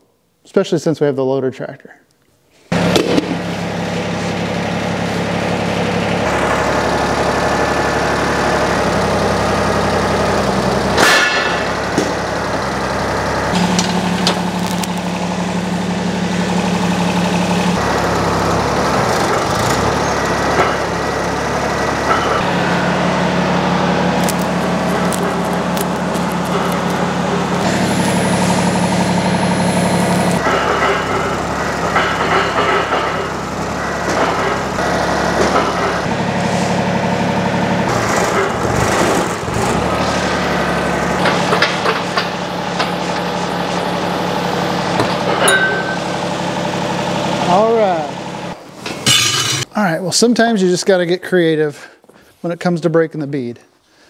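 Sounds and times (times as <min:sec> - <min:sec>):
tractor diesel engine running: 0:02.7 - 0:49.7.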